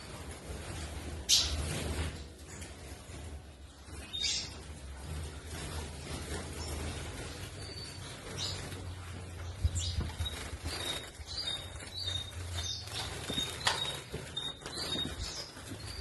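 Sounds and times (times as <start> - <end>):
birds fluttering wings: 0.0 - 16.0
small birds chirping: 0.0 - 16.0.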